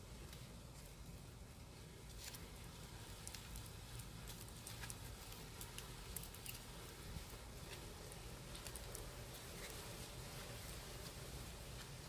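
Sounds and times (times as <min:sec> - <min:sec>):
faint leaf rustling: 0:00.0 - 0:12.0.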